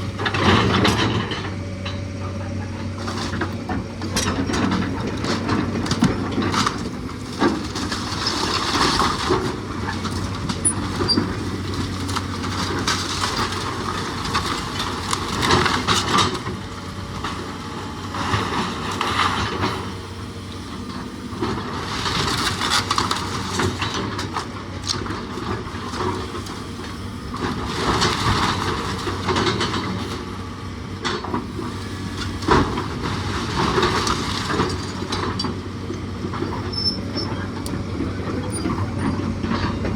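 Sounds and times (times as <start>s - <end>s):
machine engine hum: 0.0s - 39.9s.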